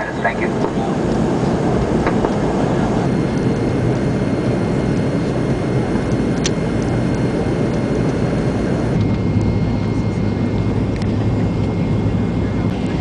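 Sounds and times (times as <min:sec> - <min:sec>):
airliner cabin engine noise: 0:00.0 - 0:13.0
low hum: 0:00.0 - 0:13.0.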